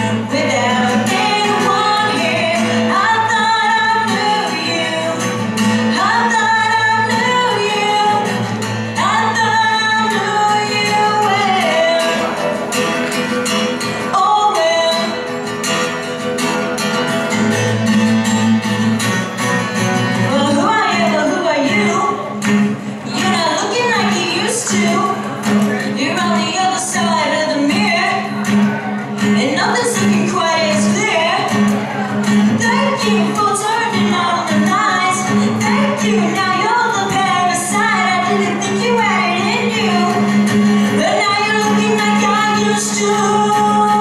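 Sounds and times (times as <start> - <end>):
woman singing: 0.0 - 12.6, 13.8 - 15.4, 20.2 - 28.6, 29.2 - 44.0
acoustic guitar chords: 0.0 - 44.0.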